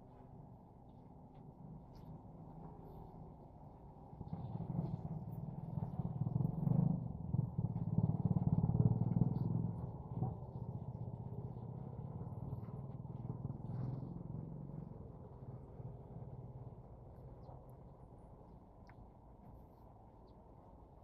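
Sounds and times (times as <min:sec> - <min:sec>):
vehicle engine running: 0:01.2 - 0:20.8.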